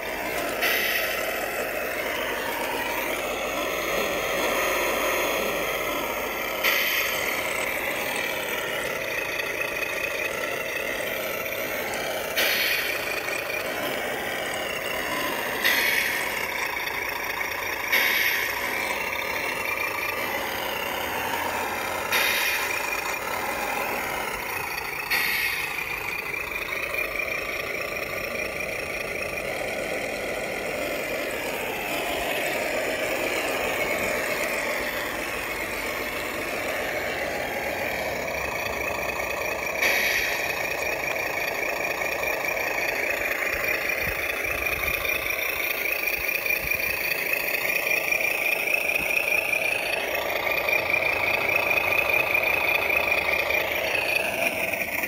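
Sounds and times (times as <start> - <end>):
loud engine bursts: 0.0 - 55.0
simulated truck engine from speaker: 0.0 - 55.0.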